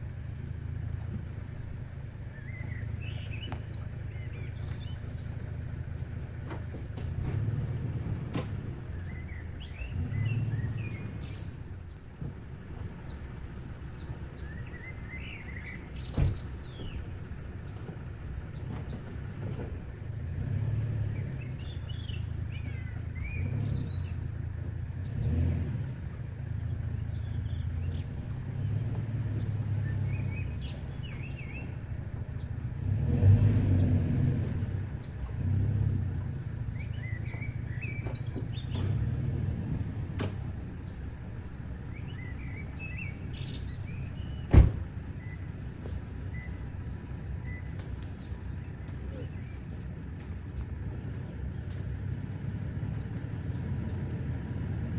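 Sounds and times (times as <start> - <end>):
low uneven rumble: 0.0 - 54.9
small birds chirping: 0.0 - 54.9.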